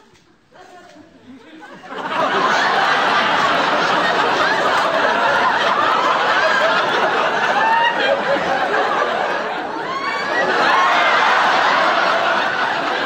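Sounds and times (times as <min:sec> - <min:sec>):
studio audience laughing: 0:01.5 - 0:13.0.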